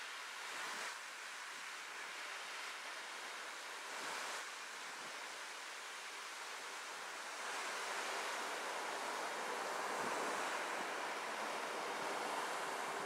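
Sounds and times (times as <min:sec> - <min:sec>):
river water washing on shore: 0:01.8 - 0:13.0.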